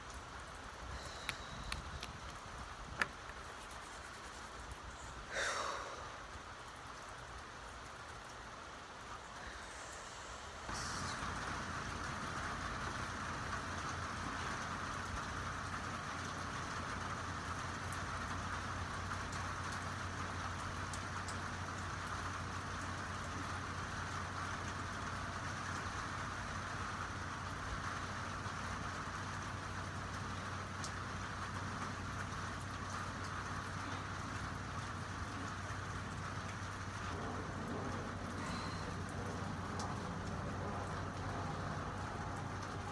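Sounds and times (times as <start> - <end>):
low steady hum: 0.0 - 42.9
rain falling: 0.0 - 42.9.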